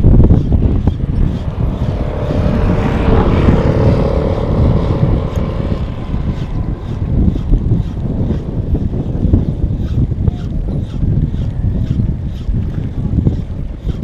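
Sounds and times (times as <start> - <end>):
steady hum: 0.0 - 14.0
wind buffeting microphone: 0.0 - 14.0.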